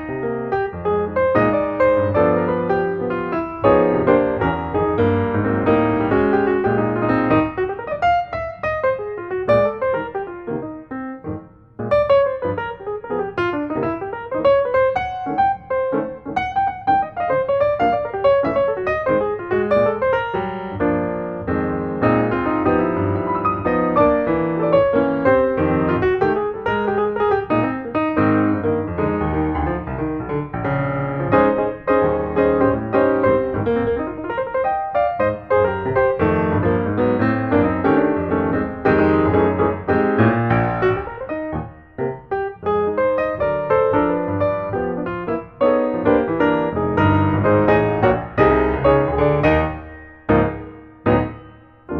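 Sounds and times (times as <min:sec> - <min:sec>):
piano music: 0:00.0 - 0:51.9.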